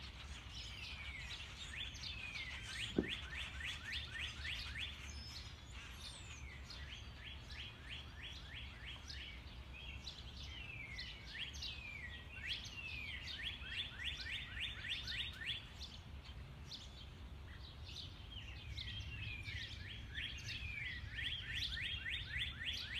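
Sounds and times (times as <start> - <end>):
songbirds chirping: 0.0 - 22.9.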